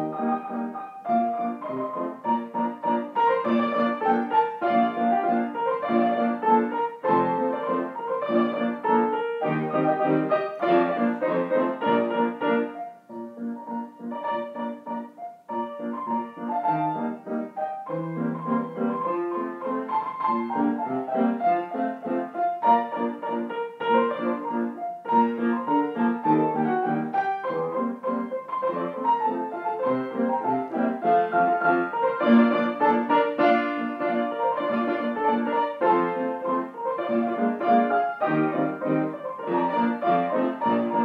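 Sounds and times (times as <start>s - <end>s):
piano piece with quick notes: 0.0s - 41.0s.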